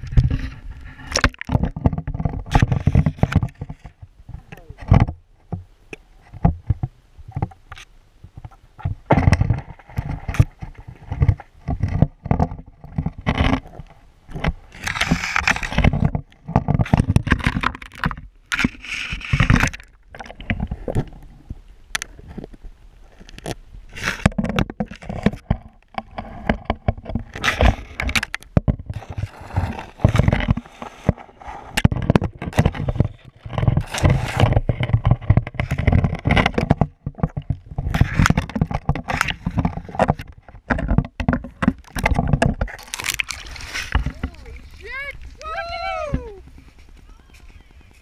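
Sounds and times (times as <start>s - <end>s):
muffled knocks and scrapes: 0.0s - 44.9s
water sloshing and gurgling: 0.0s - 48.0s.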